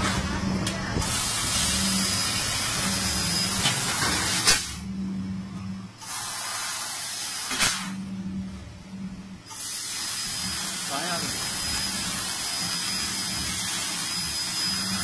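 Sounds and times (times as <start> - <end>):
gas hissing: 0.0 - 4.9, 6.0 - 8.0, 9.5 - 15.0
low machine hum: 0.0 - 6.1, 7.3 - 15.0.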